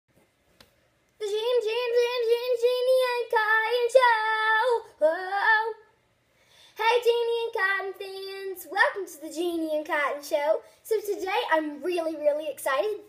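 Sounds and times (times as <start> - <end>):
girl singing unaccompanied: 1.2 - 6.0, 6.7 - 13.0.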